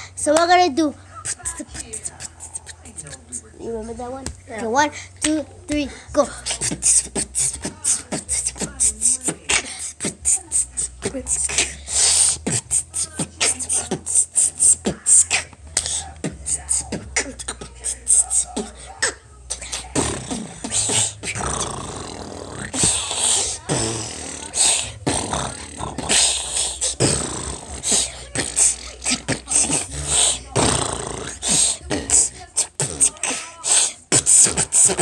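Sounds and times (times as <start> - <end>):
child beatboxing: 0.0 - 35.0.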